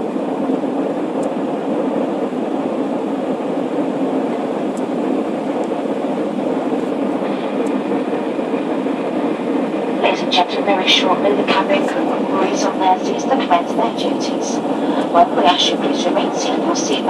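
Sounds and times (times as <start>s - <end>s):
jet engine roar in cabin: 0.0s - 17.0s.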